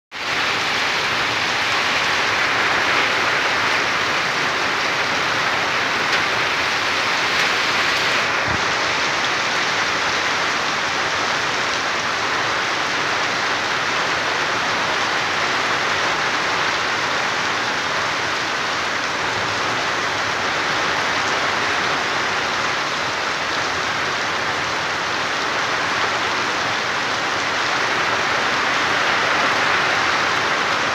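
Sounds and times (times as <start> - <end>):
heavy rain pouring: 0.1 - 30.9.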